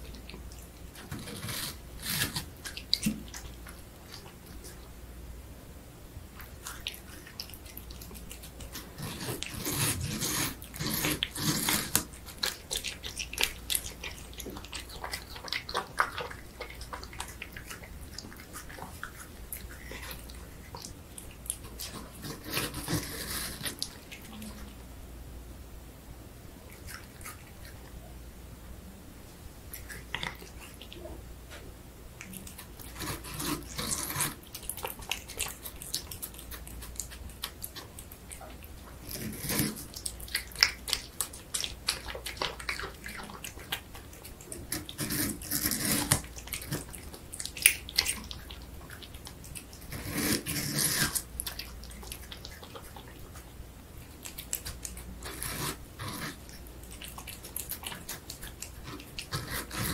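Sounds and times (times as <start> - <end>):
cat chewing and lapping: 0.0 - 5.0, 6.2 - 24.8, 26.6 - 28.1, 29.6 - 59.9.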